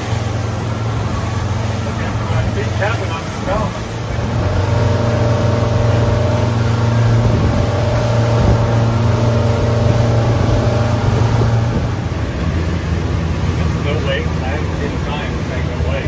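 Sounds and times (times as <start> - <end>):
outboard motors droning: 0.0 - 16.0
rushing wake water: 0.0 - 16.0.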